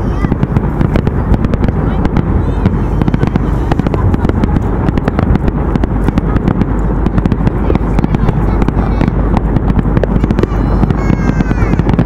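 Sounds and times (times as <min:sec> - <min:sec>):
firework bangs and crackles: 0:00.0 - 0:12.0.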